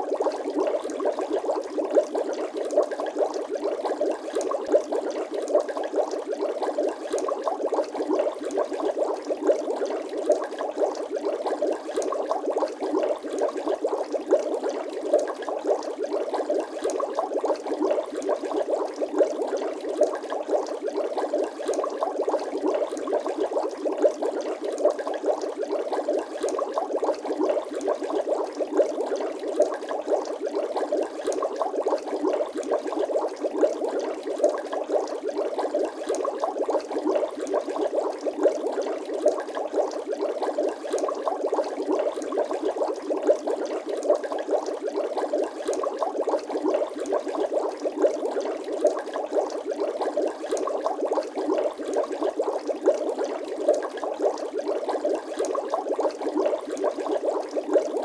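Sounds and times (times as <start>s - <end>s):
water bubbling and gurgling: 0.0s - 58.0s.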